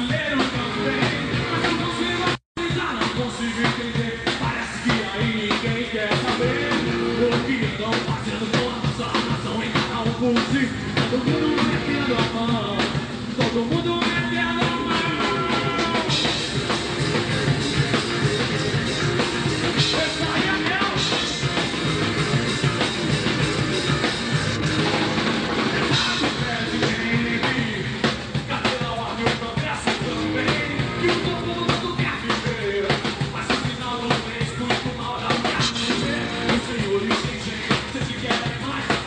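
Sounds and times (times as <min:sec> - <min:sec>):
electric guitar and bass: 0:00.0 - 0:02.4, 0:03.3 - 0:39.0
person singing: 0:00.0 - 0:16.8, 0:19.7 - 0:22.1, 0:25.8 - 0:39.0
drum kit beat: 0:00.0 - 0:39.0.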